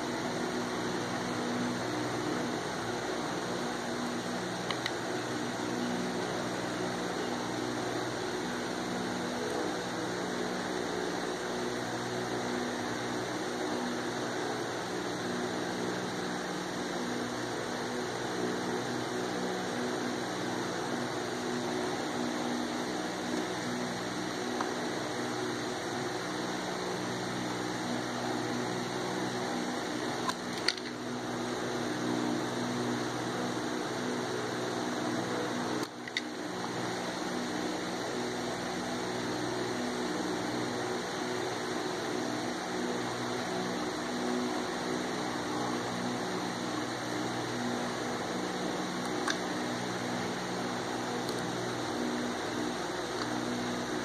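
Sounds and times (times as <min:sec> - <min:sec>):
mechanical hum and hiss: 0:00.0 - 0:54.0.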